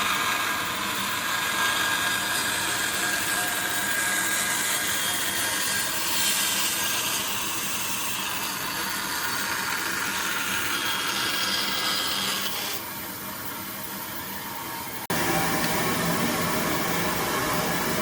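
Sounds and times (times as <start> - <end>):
power tool working wood: 0.0 - 12.8, 15.1 - 18.0
faint motor hum: 0.0 - 18.0.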